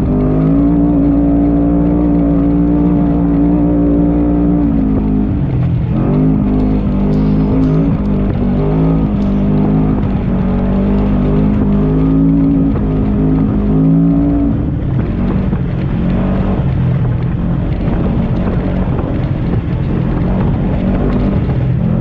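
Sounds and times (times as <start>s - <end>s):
engine running hard: 0.0s - 22.0s.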